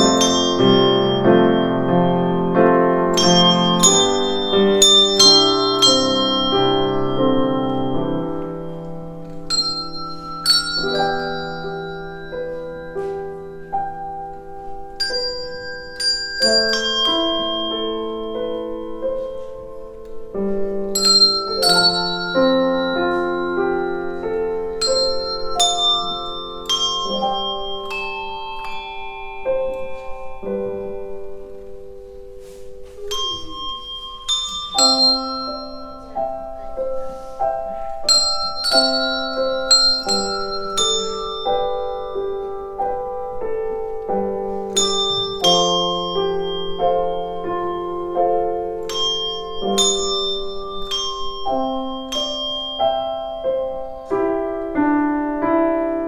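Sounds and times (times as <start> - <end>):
handbells playing a slow melody: 0.0 - 56.0
piano accompaniment: 0.0 - 56.0.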